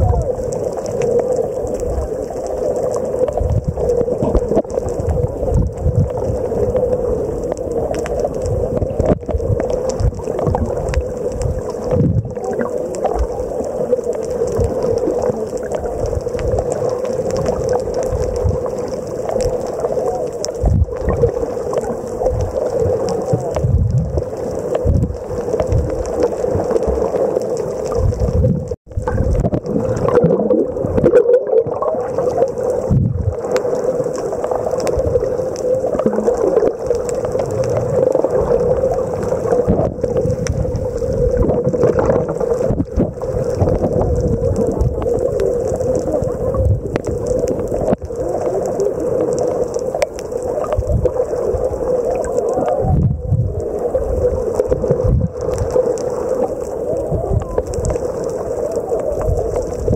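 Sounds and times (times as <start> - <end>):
muffled water noise: 0.0 - 59.9.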